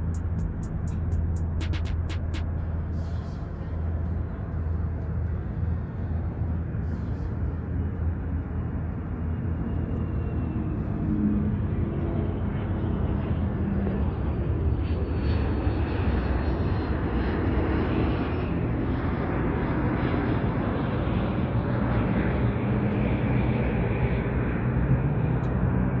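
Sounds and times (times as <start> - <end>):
light airplane engine droning: 0.0 - 26.0.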